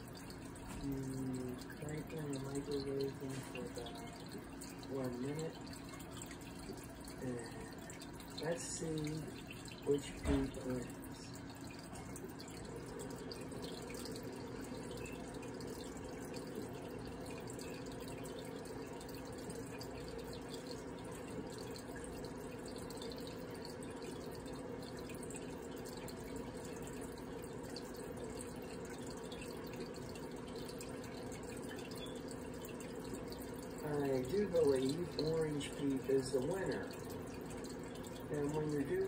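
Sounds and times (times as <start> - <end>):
microwave oven humming: 0.0 - 39.0.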